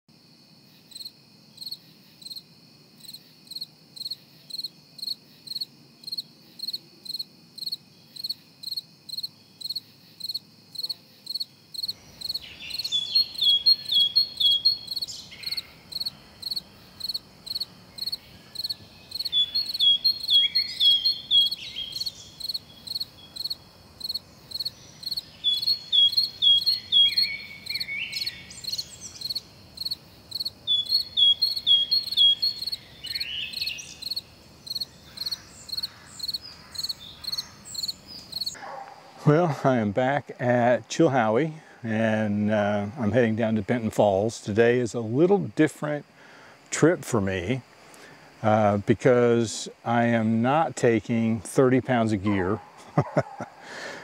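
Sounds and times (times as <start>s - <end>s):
background hiss: 0.1s - 54.0s
crickets chirping: 0.1s - 54.0s.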